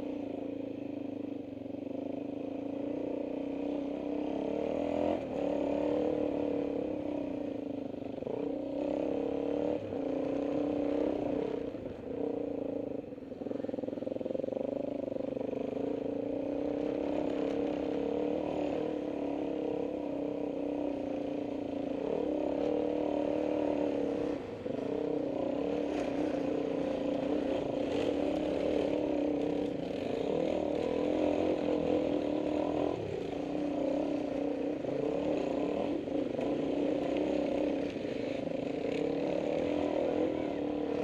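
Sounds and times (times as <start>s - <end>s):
dirt bike engine revving: 2.6s - 7.6s, 8.2s - 41.0s.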